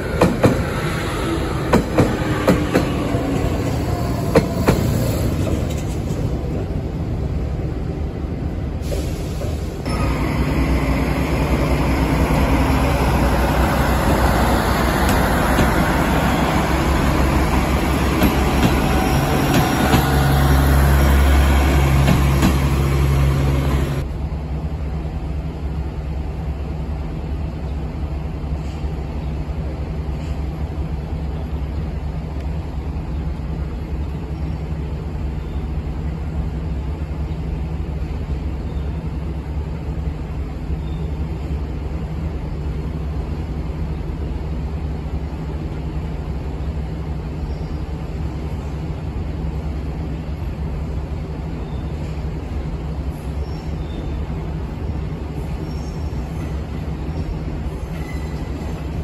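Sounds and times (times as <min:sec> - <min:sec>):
low rumble of trackside ambience: 0:00.0 - 0:59.0
train running close by: 0:00.0 - 0:59.0.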